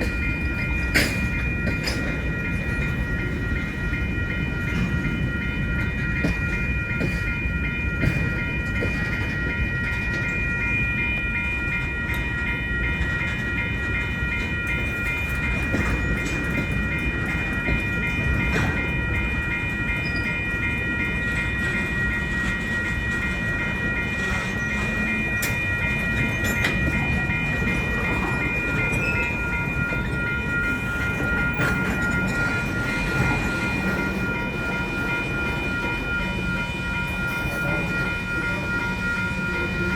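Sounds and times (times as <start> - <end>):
freight train rumbling: 0.0 - 39.9
high pulsing ringing: 0.0 - 39.9.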